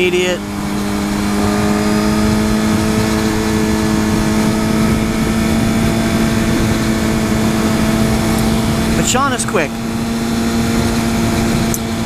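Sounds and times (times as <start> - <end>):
motorcycle engine cruising: 0.0 - 12.0
wind rumble on microphone: 0.0 - 12.0.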